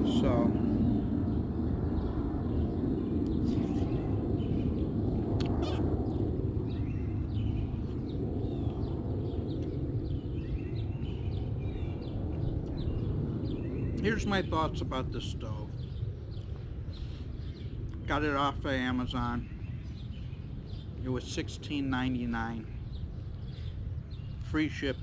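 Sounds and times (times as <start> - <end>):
birds chirping: 0.0 - 25.0
low background rumble: 0.0 - 25.0.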